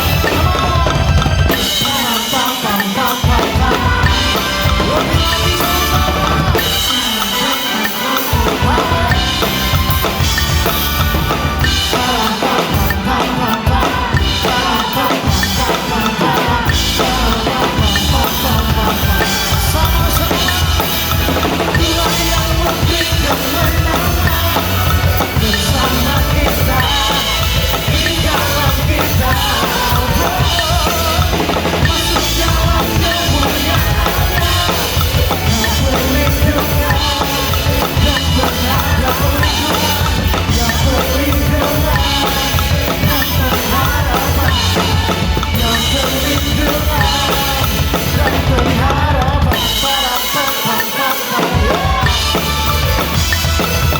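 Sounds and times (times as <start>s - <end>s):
backing song: 0.0s - 53.9s
fast drum kit playing: 0.0s - 53.9s.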